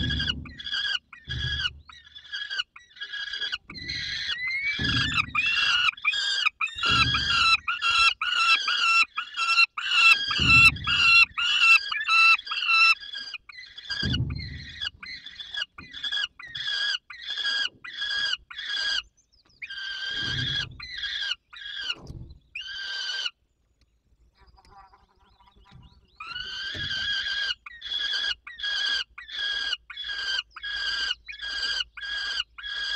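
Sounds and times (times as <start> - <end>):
young falcons calling: 0.0 - 19.0, 19.6 - 23.4, 24.4 - 32.9.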